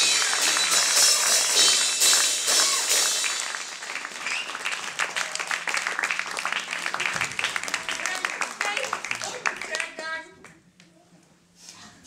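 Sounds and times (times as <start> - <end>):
audience applause: 0.0 - 10.2.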